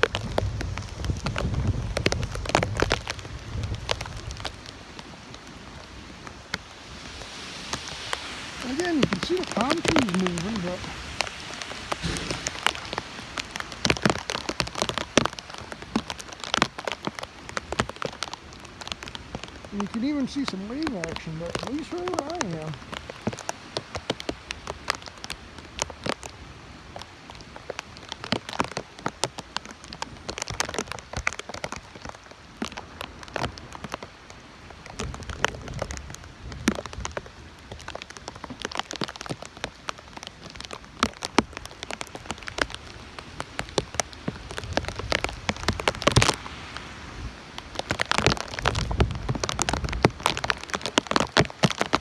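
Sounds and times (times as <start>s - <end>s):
heavy rain falling: 0.0s - 52.0s
wind rumbling on microphone: 0.0s - 52.0s.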